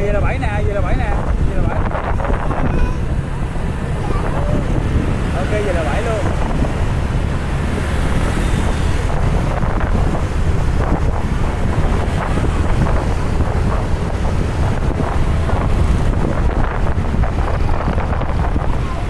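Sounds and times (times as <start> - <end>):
slow-moving traffic: 0.0 - 19.0
wind buffeting microphone: 0.0 - 19.0.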